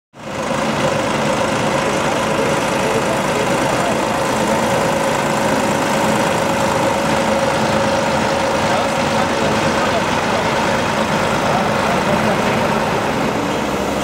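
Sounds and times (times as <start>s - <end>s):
diesel engine idling: 0.2s - 14.0s.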